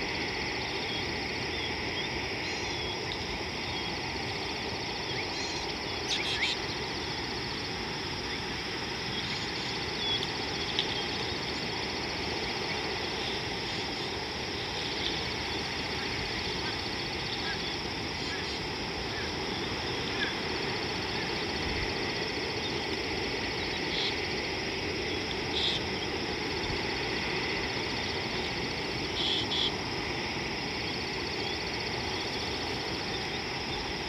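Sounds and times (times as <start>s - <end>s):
low steady river rush: 0.0s - 34.0s.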